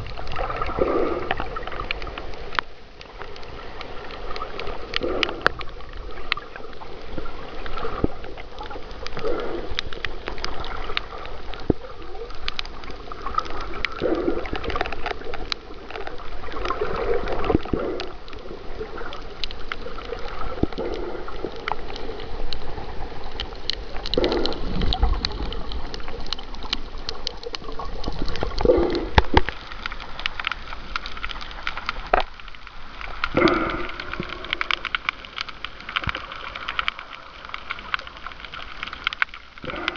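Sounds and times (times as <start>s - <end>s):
muffled underwater water sloshing: 0.0s - 39.9s
sharp underwater clicks and crackles: 0.0s - 39.9s.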